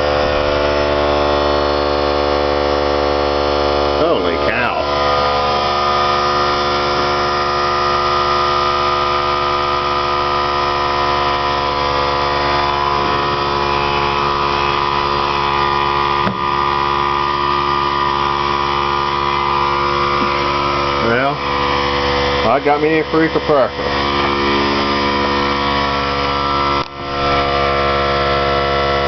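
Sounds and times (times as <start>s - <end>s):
air compressor running: 0.0s - 29.0s.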